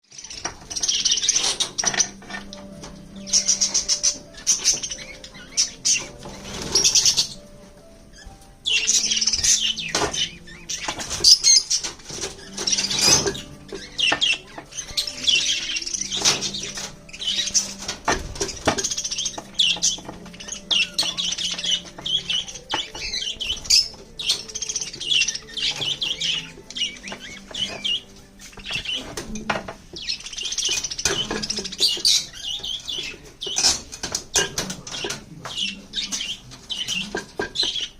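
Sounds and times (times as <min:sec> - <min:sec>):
budgerigars chattering: 0:00.1 - 0:37.9.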